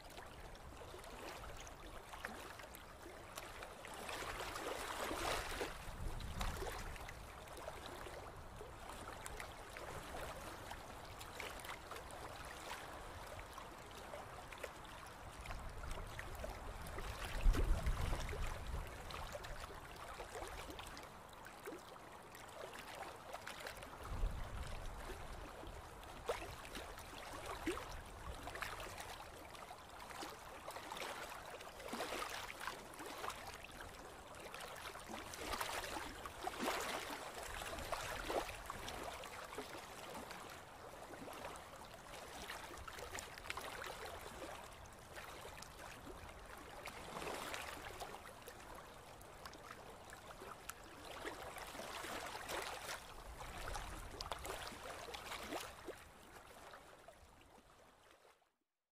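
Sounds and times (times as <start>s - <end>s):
small water splashes: 0.0s - 58.4s
small waves lapping: 0.0s - 58.4s.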